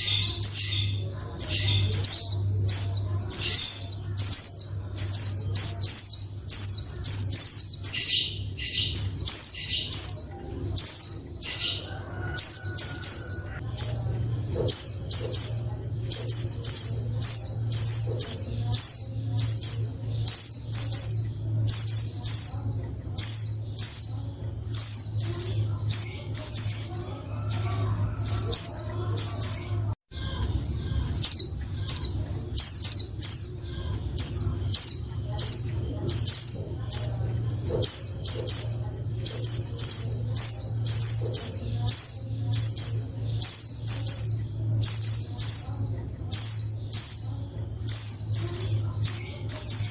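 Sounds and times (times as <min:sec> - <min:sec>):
bird chirping: 0:00.0 - 0:49.9.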